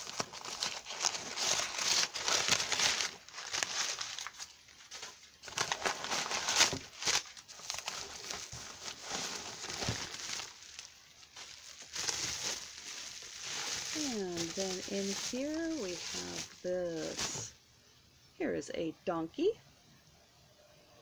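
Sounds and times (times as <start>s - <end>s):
plastic wrap crinkling: 0.0s - 17.6s.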